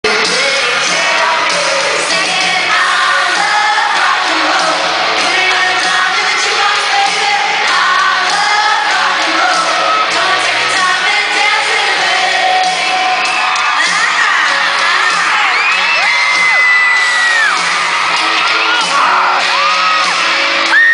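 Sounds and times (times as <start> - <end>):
crowd screaming and cheering: 0.0 - 20.9
live pop music with singing: 0.0 - 20.9.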